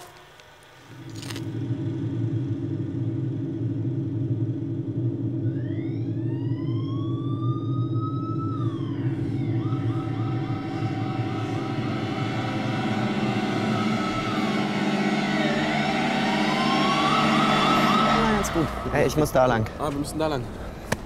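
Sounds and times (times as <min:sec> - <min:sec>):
siren-like wail: 0:00.0 - 0:20.1
low rumble: 0:00.7 - 0:20.8.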